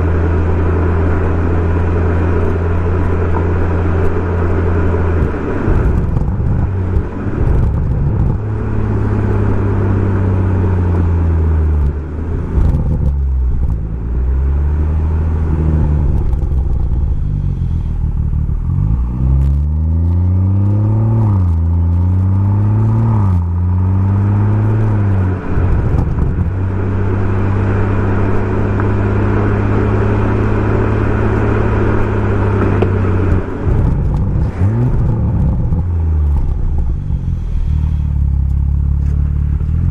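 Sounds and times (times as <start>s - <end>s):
car exhaust while driving: 0.0s - 39.9s
gear changes: 0.0s - 39.9s.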